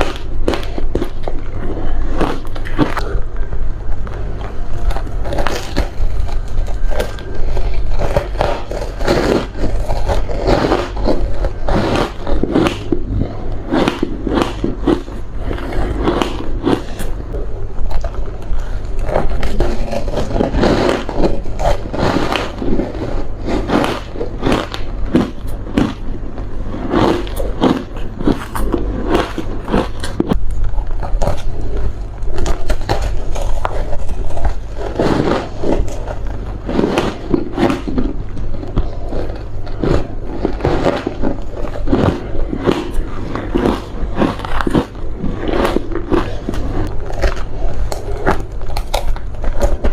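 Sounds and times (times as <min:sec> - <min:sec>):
steady low hum: 0:00.0 - 0:49.9
chewing crunchy ice: 0:04.0 - 0:49.9.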